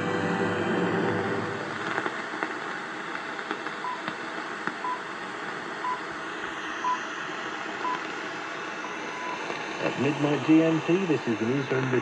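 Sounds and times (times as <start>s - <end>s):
radio static hiss and crackle: 0.0s - 12.0s.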